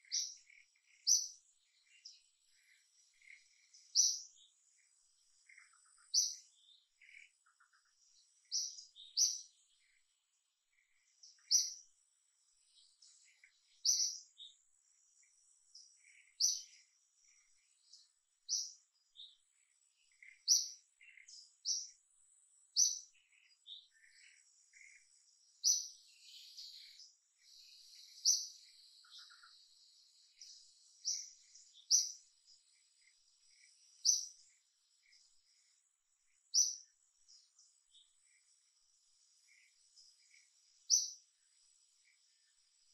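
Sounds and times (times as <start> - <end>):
soft bird chirps: 0.0 - 42.9.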